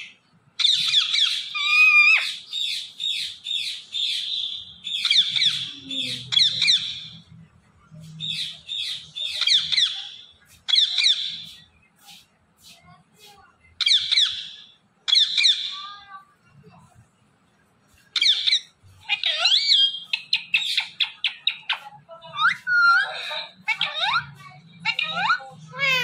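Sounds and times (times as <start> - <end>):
parakeet chirping: 0.0 - 7.2, 8.1 - 12.1, 13.8 - 16.0, 17.9 - 26.0.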